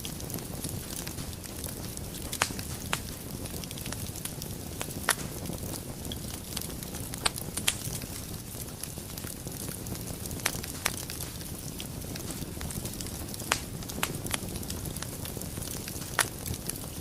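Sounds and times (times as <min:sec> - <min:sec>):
fire crackles and pops: 0:00.0 - 0:17.0
wood fire rumble and hiss: 0:00.0 - 0:17.0.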